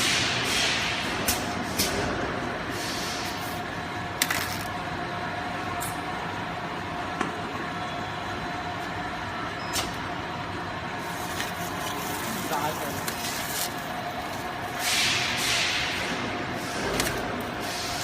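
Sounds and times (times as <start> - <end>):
machine hum with whine: 0.0 - 18.0.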